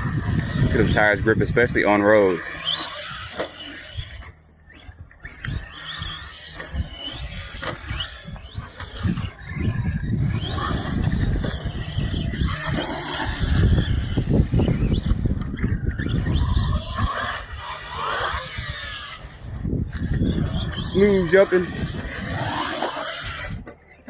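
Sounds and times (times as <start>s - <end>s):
electric motor whining: 0.0s - 24.0s
tyre and dirt noise: 0.0s - 24.0s.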